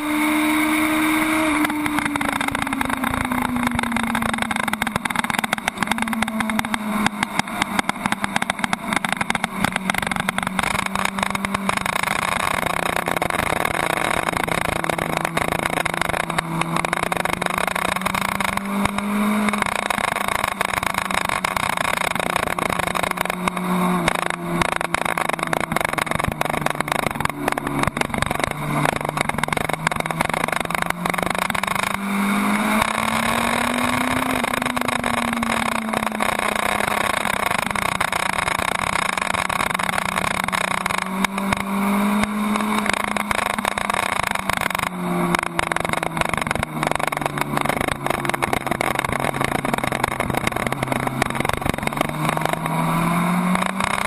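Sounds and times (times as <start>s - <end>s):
motorcycle engine pulling: 0.0s - 54.0s.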